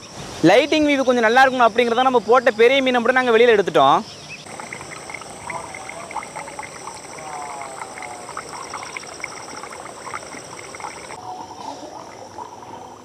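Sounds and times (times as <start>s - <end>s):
frogs croaking: 0.0s - 13.0s
insects trilling: 0.0s - 13.0s.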